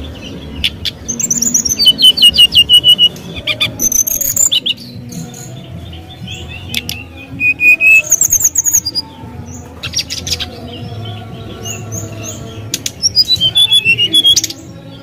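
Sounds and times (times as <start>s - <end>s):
bird singing chirps and trills: 0.0s - 15.0s.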